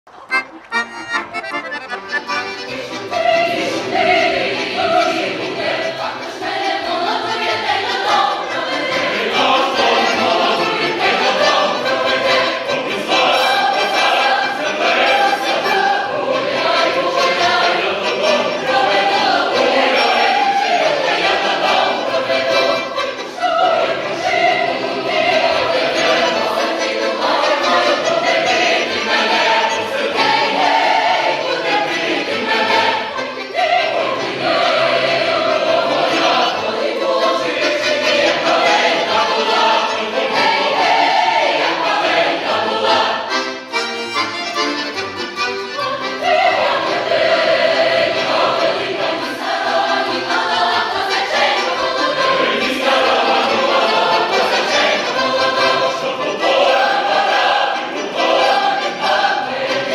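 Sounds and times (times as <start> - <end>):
accordion: 0.1 - 59.9
choir singing a folk song: 0.3 - 59.9.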